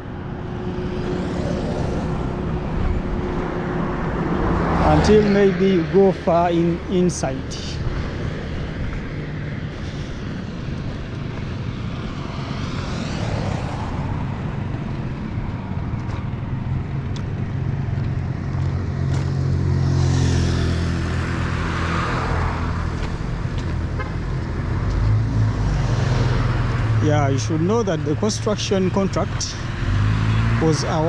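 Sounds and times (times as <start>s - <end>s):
traffic engine hum: 0.0s - 31.0s
vehicles passing by: 0.0s - 31.0s.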